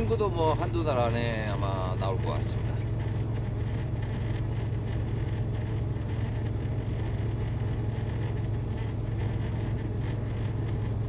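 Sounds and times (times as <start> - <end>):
road and tyre noise: 0.0 - 11.0
truck engine drone: 0.0 - 11.0.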